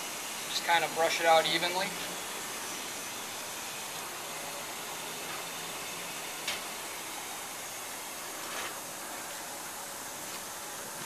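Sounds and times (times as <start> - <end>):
heating tool hissing: 0.0 - 11.0.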